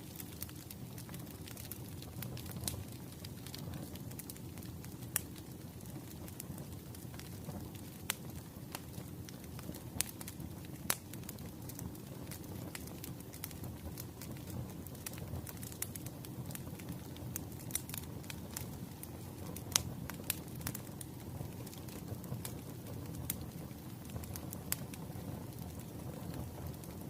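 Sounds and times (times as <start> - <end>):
fire flames rumbling: 0.0 - 27.0
logs crackling and popping: 0.0 - 27.0.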